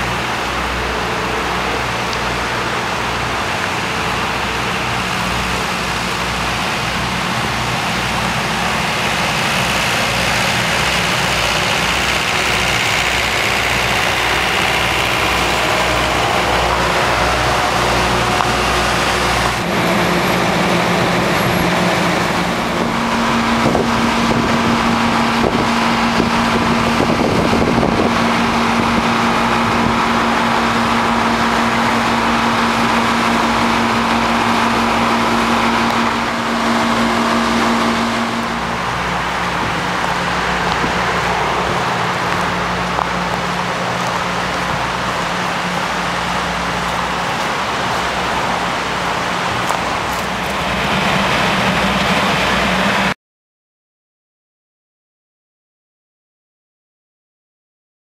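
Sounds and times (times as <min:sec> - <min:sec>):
vehicle road noise hiss: 0:00.0 - 0:53.2.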